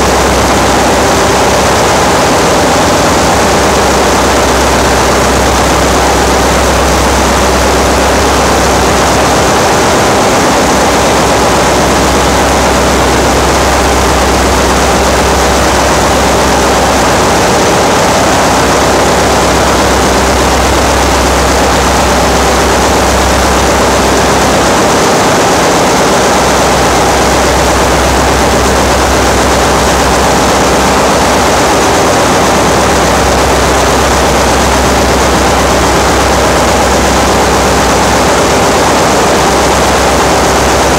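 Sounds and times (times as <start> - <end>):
ship engine room machinery din: 0.0 - 40.9.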